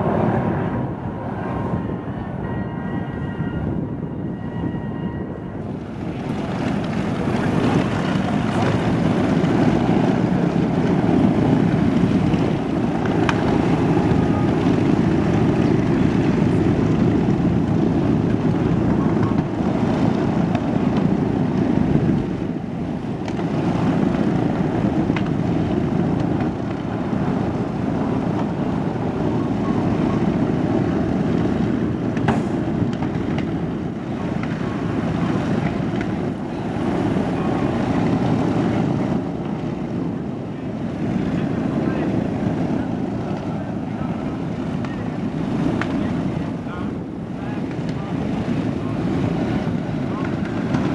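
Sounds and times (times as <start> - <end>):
engine drone: 0.0 - 50.9
wind noise on microphone: 0.0 - 50.9.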